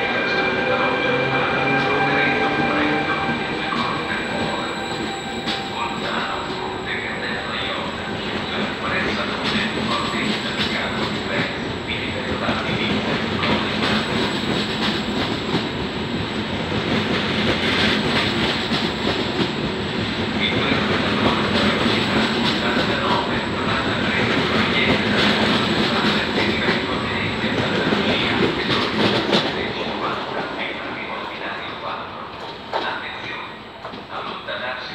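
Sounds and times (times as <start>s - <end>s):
train wheels rumbling over rails: 0.0s - 34.7s.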